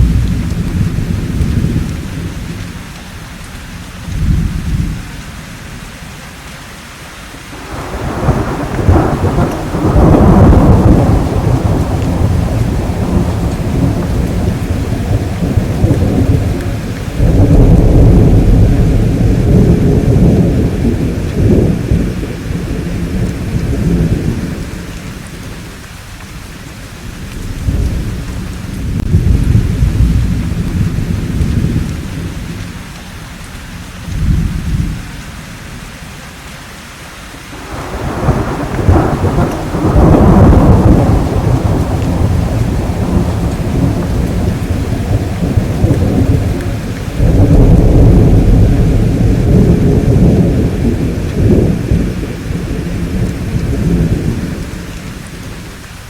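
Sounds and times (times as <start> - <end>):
rolling thunder: 0.0 - 3.0, 3.8 - 5.2, 7.6 - 25.8, 26.4 - 35.8, 37.6 - 56.0
steady rainfall: 0.0 - 56.0.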